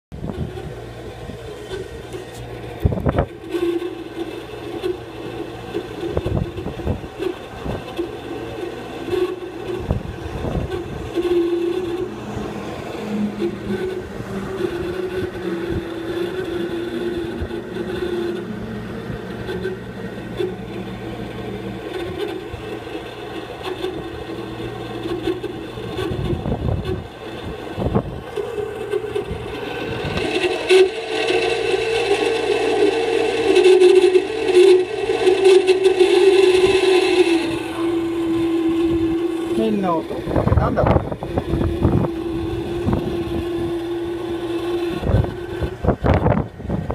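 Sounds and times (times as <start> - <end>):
condensing unit droning: 0.1 - 46.9
scraping rattle: 0.2 - 46.9.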